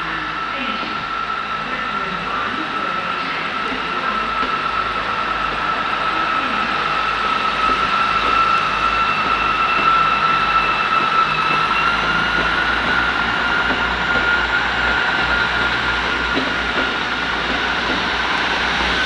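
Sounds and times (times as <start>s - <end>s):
diesel train engine whining: 0.0s - 19.0s.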